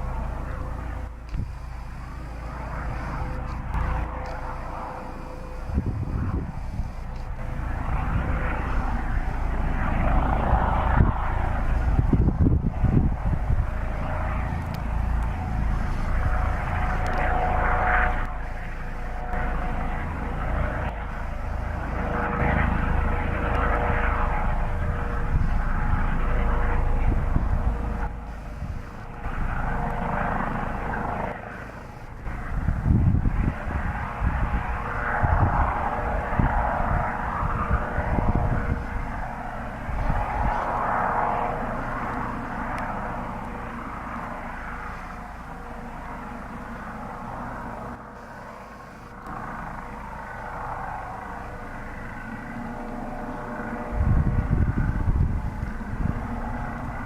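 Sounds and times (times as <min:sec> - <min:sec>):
helicopter rotor rumble: 0:00.0 - 0:57.0
turbine whine: 0:00.0 - 0:57.0.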